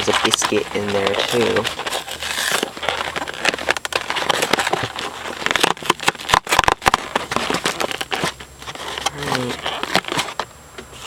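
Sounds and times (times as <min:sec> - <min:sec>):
paperboard box crackling: 0:00.0 - 0:10.5.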